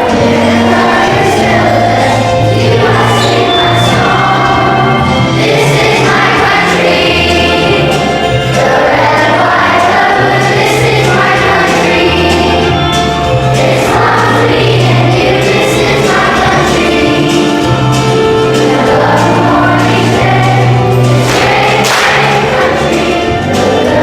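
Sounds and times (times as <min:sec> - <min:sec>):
children's choir singing: 0:00.0 - 0:24.0
instrumental accompaniment: 0:00.0 - 0:24.0
sustained bass notes: 0:00.0 - 0:24.0.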